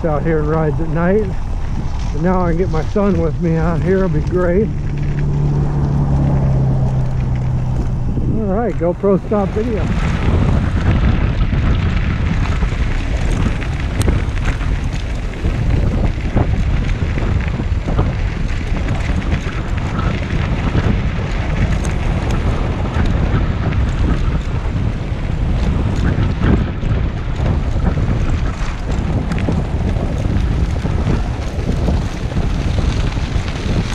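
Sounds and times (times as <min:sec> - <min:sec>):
wind noise on microphone: 0:00.0 - 0:33.9.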